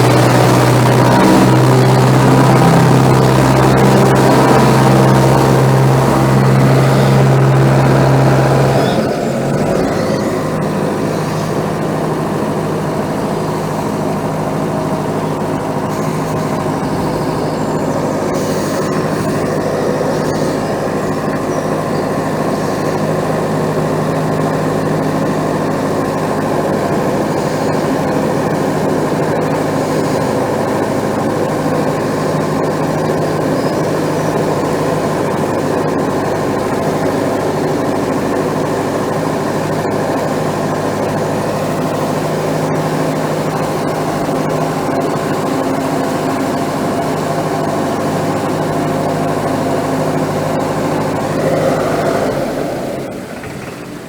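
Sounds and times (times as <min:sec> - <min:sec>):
boat engine low hum: 0:00.0 - 0:54.0.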